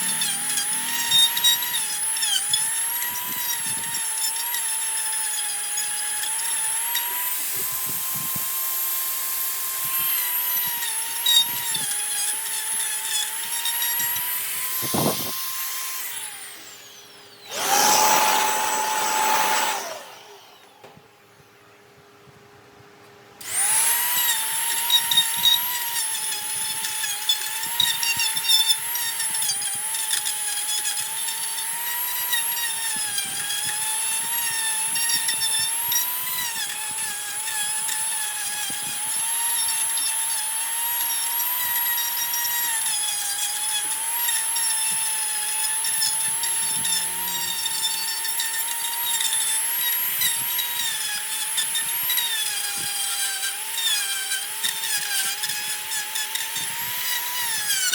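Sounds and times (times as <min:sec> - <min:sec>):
power tool whining on wood: 0:00.0 - 0:21.1, 0:23.4 - 0:57.9.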